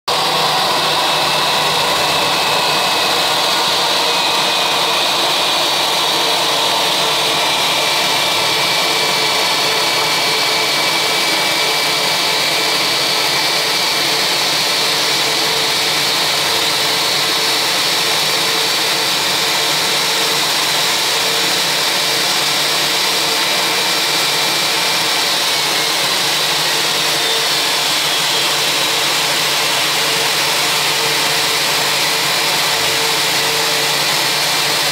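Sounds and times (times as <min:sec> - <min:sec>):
jet engines idling with high whine: 0:00.1 - 0:34.9.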